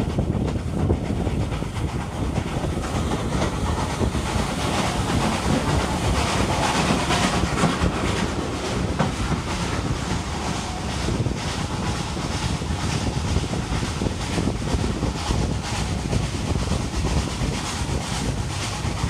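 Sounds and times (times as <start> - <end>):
steam locomotive chuffing: 0.0 - 19.0
wheels clattering on rail: 0.0 - 19.0.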